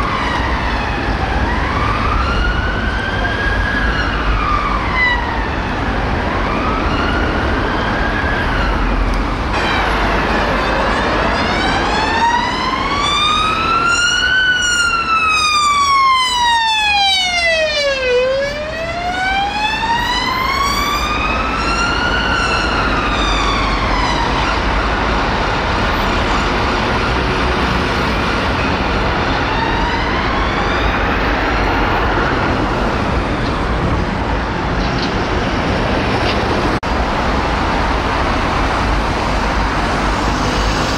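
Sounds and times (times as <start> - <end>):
emergency siren wailing: 0.0 - 34.9
road traffic noise: 0.0 - 40.9.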